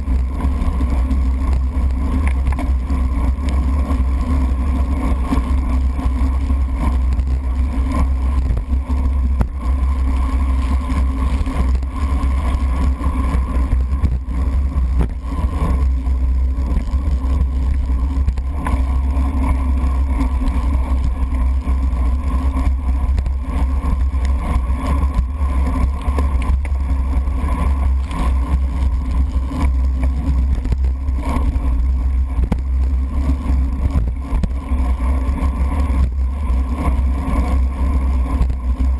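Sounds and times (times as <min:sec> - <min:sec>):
muffled wind and tyre rumble: 0:00.0 - 0:38.9.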